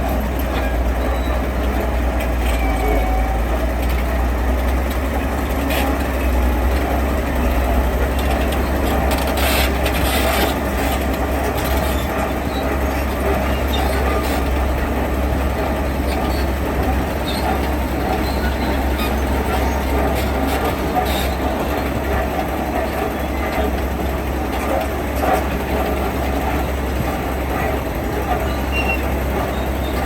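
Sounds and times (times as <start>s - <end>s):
diesel machinery engine rumbling: 0.0s - 30.0s.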